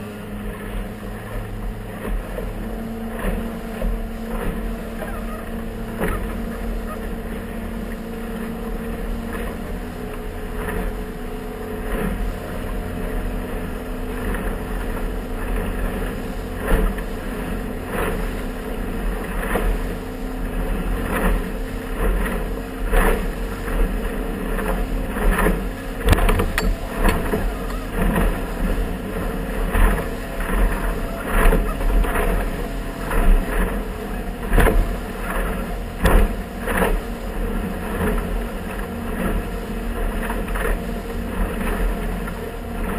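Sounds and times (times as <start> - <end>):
motorboat engine running: 0.0 - 42.9
hull slapping against waves: 0.1 - 42.9.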